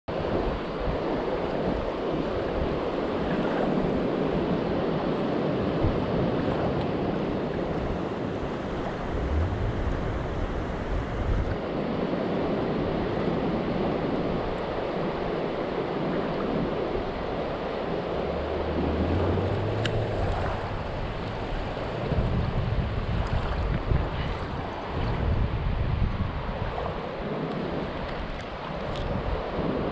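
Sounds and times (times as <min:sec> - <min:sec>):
river water rushing over rocks: 0:00.1 - 0:25.5
wind buffeting microphone: 0:00.1 - 0:29.9.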